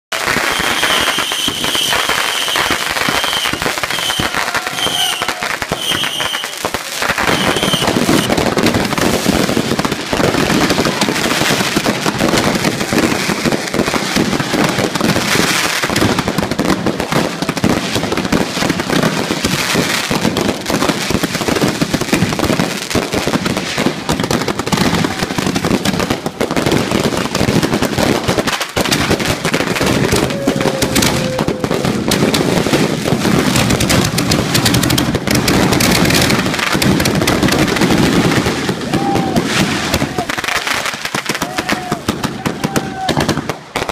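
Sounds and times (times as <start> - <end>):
fireworks crackling and popping: 0.1 - 43.9.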